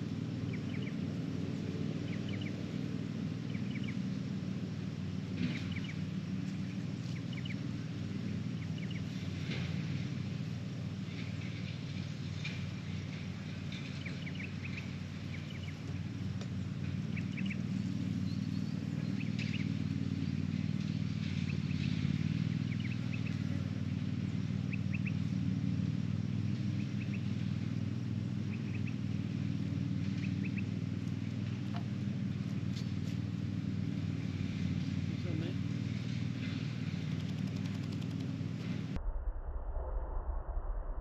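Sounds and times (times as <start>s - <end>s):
small birds chirping: 0.0s - 38.9s
low engine drone: 0.0s - 41.0s.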